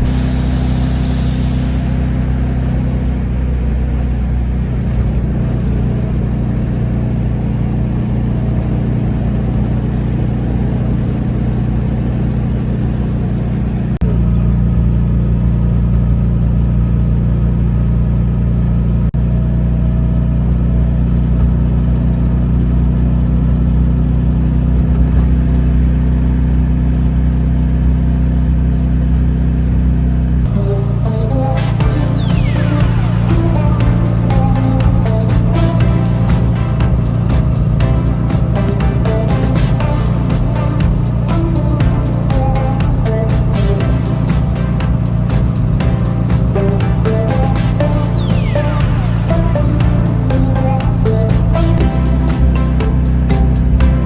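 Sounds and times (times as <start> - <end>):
two-cylinder car engine running: 0.0 - 54.0.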